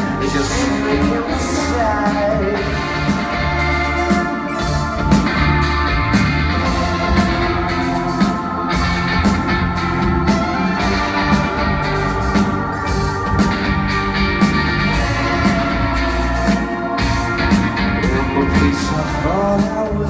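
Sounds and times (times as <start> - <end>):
organ: 0.0 - 20.0
rock band playing: 0.0 - 20.0.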